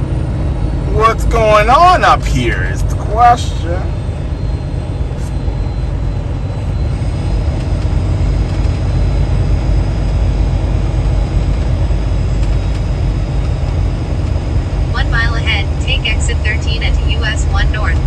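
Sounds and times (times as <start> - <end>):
diesel truck engine drone: 0.0 - 18.0
road noise: 0.0 - 18.0.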